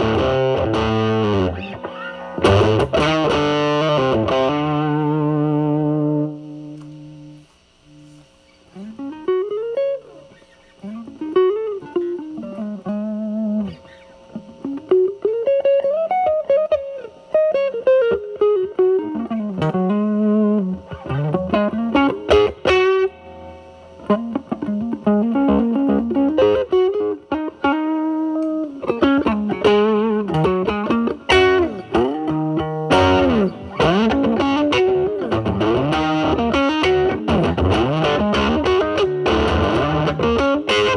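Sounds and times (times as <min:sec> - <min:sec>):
fuzzed electric guitar: 0:00.0 - 0:40.9.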